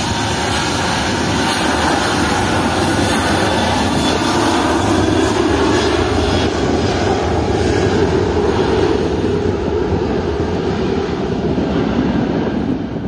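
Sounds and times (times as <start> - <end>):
aircraft engines running: 0.0 - 13.0.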